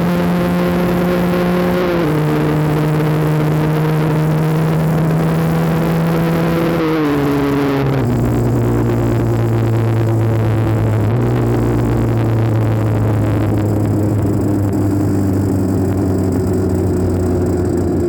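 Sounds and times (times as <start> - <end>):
two-stroke motorcycle engine running: 0.0 - 18.0.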